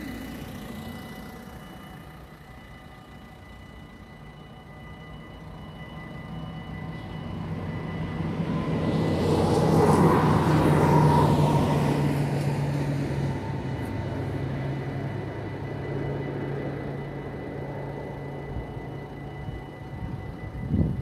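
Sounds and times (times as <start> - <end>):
locomotive engine humming: 0.0 - 21.0
train wheels rumbling: 0.0 - 21.0.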